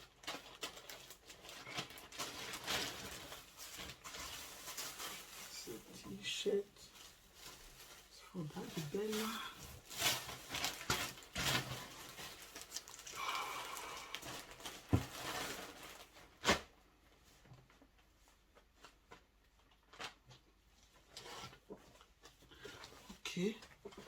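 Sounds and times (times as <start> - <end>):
plastic packaging rustling: 0.0 - 24.0.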